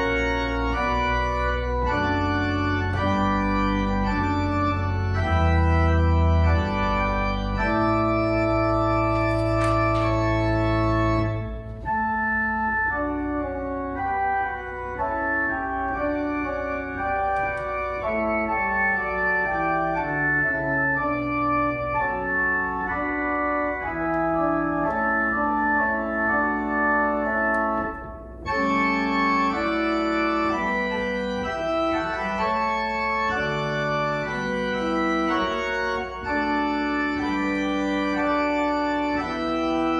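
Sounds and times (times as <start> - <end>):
electronic keyboard organ chords: 0.0 - 39.9.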